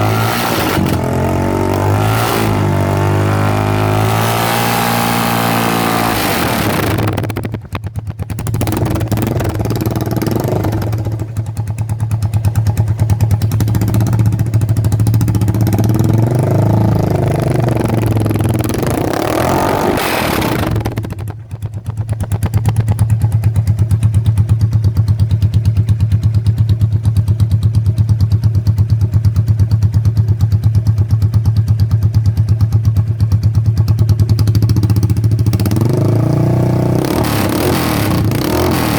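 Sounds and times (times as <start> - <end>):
loud motorcycle engine revving: 0.0 - 38.9.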